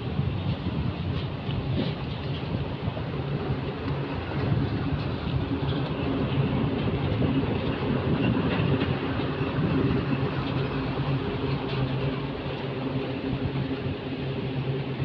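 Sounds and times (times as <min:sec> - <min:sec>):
heavy vehicle engine humming: 0:00.0 - 0:15.0.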